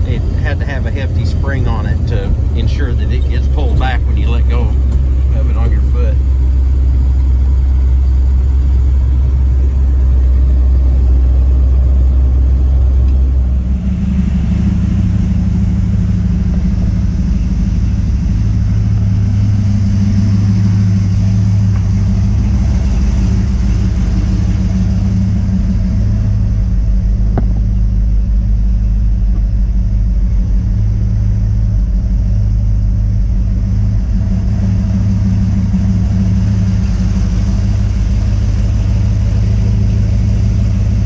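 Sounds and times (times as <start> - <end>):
truck engine rumble: 0.0 - 41.0.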